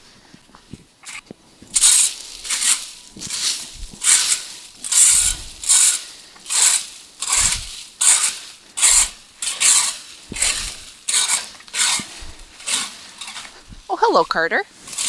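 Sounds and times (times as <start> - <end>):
rake scratching through dry leaves: 1.0 - 15.0.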